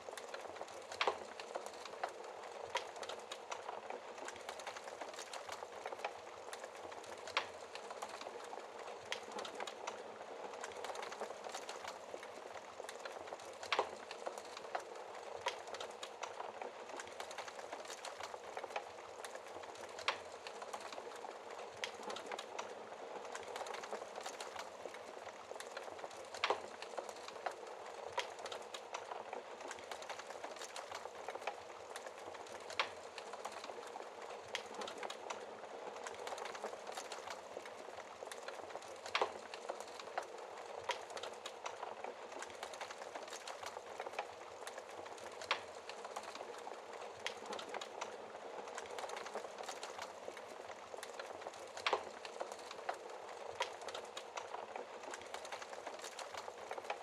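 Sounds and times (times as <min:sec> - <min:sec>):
burning logs crackling: 0:00.0 - 0:57.0
hiss of rain: 0:00.0 - 0:57.0.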